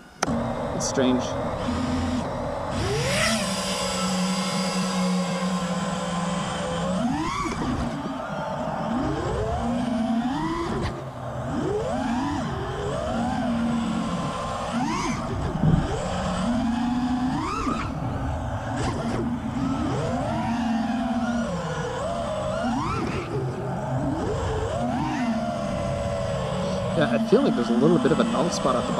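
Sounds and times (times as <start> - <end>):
drone motors whining: 0.0 - 28.9.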